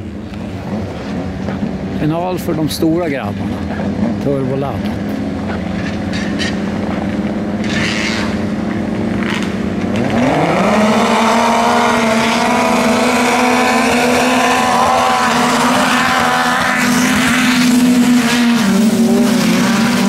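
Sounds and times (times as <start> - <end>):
snowmobile engines revving: 0.0 - 20.0.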